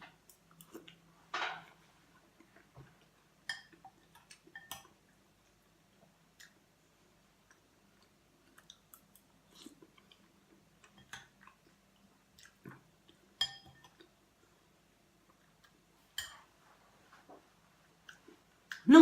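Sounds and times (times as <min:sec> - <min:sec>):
person chewing food: 0:00.2 - 0:01.1, 0:02.0 - 0:16.4, 0:17.6 - 0:18.9.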